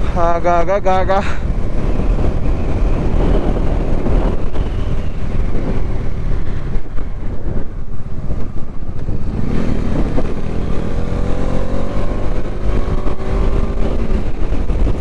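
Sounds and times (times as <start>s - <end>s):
wind buffeting microphone: 0.0s - 15.0s
motorcycle engine running: 0.1s - 15.0s.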